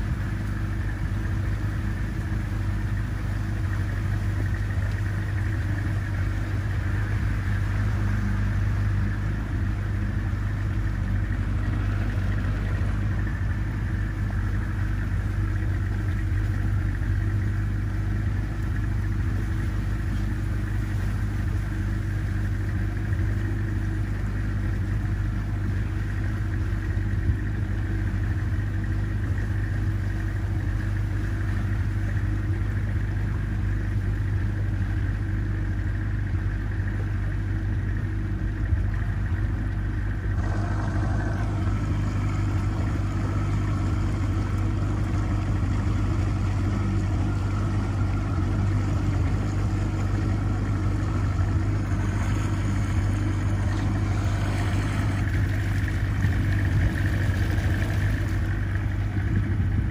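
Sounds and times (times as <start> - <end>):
boat motor humming: 0.0 - 59.9.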